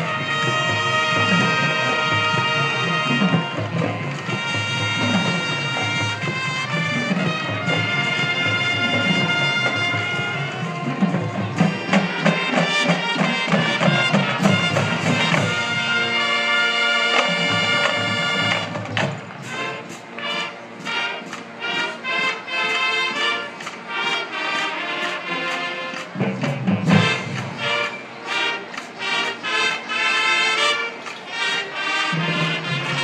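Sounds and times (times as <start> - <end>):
marching band playing: 0.0 - 33.0.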